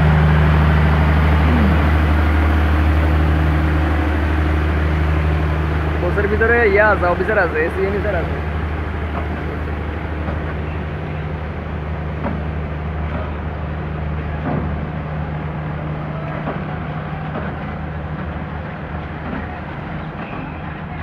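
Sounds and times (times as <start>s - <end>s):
low engine drone: 0.0s - 21.0s
train rolling on rails: 0.0s - 21.0s.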